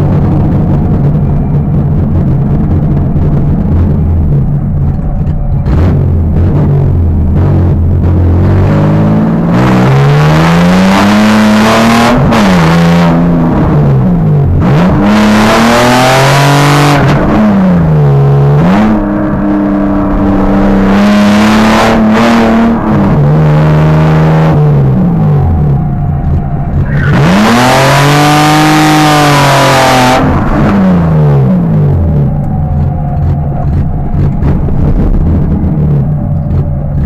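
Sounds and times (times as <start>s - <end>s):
car engine accelerating through gears: 0.0s - 37.0s.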